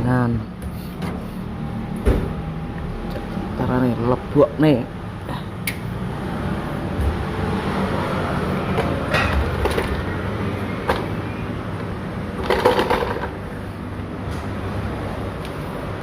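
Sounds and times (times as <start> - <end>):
laundry machines humming: 0.2 - 16.0.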